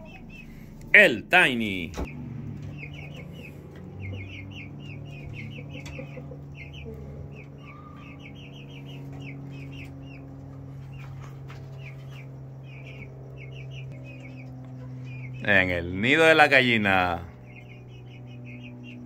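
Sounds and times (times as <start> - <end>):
chickens chirping: 0.0 - 19.0
steady low hum: 0.0 - 19.0.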